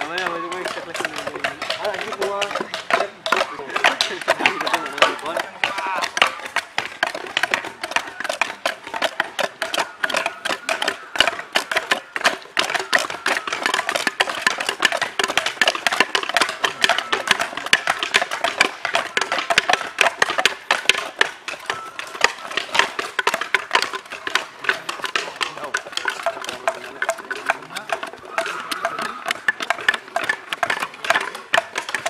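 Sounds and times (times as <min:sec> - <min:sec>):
machetes chopping wood: 0:00.0 - 0:32.0.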